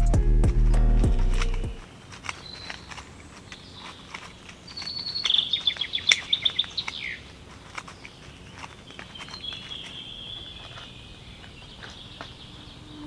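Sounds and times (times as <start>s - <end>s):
bird chirping rapidly: 1.0s - 13.0s.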